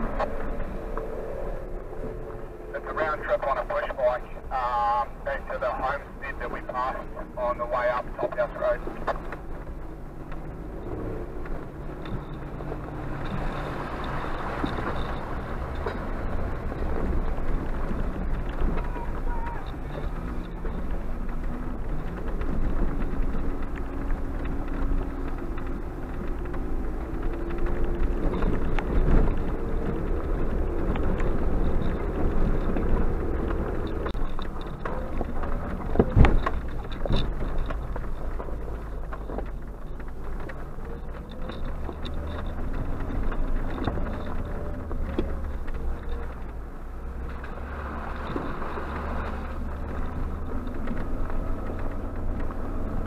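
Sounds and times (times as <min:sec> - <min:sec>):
car engine revving: 0:00.0 - 0:53.0
tyres rumbling on gravel: 0:00.0 - 0:53.0.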